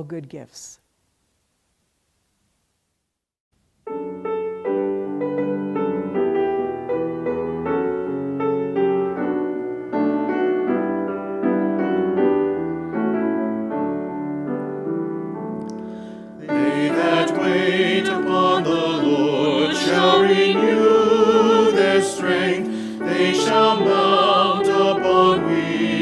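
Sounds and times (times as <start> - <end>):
piano playing hymn introduction: 3.8 - 26.0.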